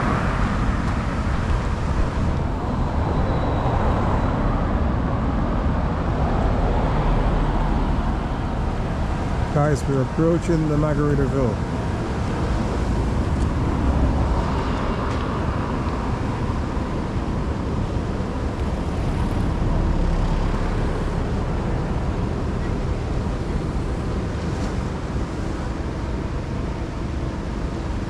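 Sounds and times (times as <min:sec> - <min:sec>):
wind noise on microphone: 0:00.0 - 0:10.2, 0:11.6 - 0:28.0
low engine rumble: 0:00.0 - 0:28.0.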